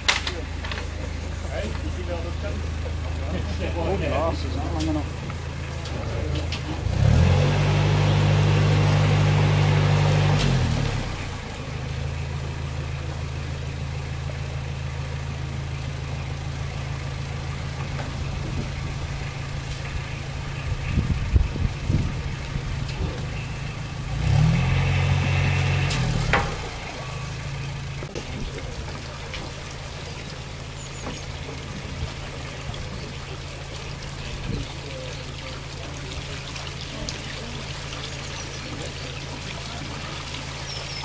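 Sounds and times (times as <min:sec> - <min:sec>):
boat engine idling: 0:00.0 - 0:41.0.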